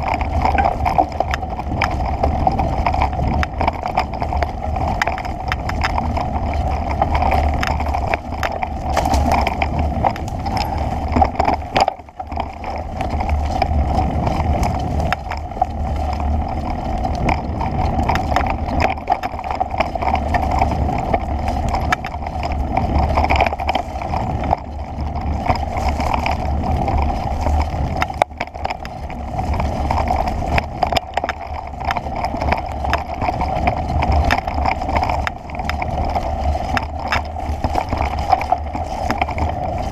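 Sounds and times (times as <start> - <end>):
camera rattling and knocking: 0.0 - 39.9
wind rushing over microphone: 0.0 - 39.9.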